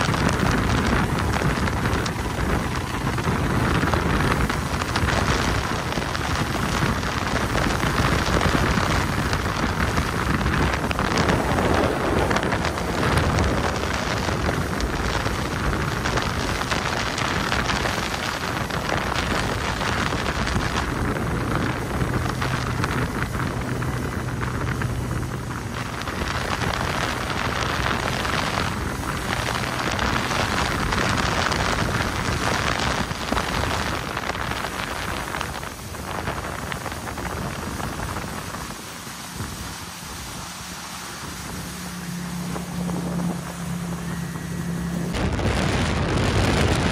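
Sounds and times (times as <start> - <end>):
churning boat wake and spray: 0.0 - 46.9
low boat engine hum: 0.0 - 46.9
wind on microphone: 0.0 - 46.9.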